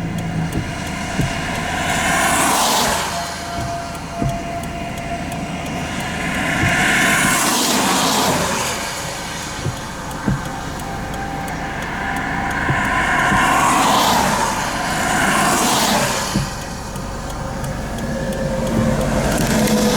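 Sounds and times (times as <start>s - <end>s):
vehicles passing by: 0.0s - 19.9s.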